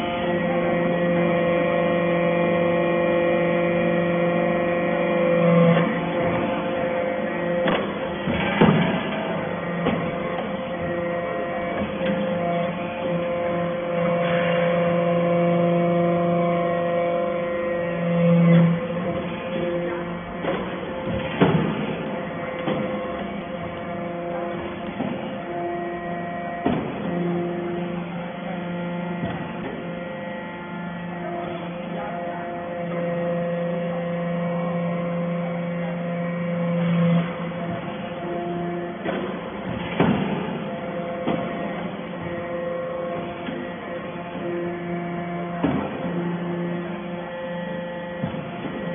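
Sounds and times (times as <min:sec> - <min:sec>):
electric motor and pump humming: 0:00.0 - 0:48.9.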